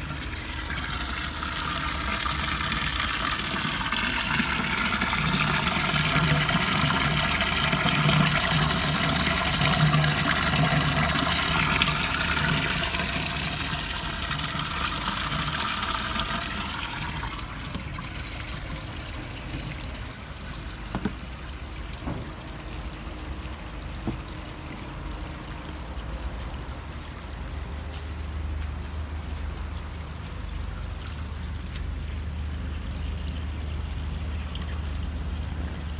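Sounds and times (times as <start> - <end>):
water pouring and splashing: 0.0 - 35.9.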